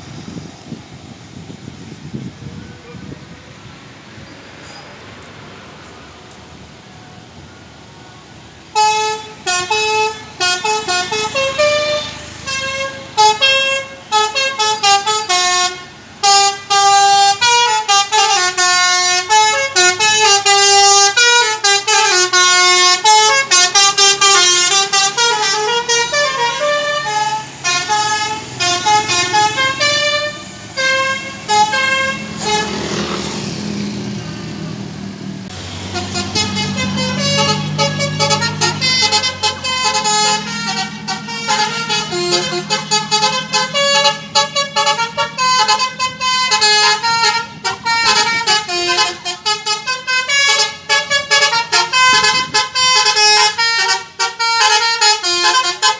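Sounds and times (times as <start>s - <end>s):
bus horn playing fast melody: 8.7s - 33.5s, 35.8s - 55.9s.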